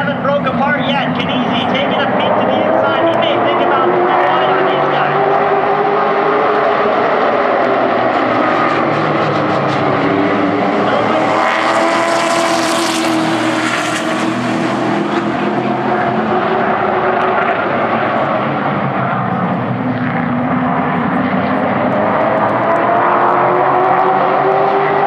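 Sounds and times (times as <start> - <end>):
race truck engines at speed: 0.0 - 25.0.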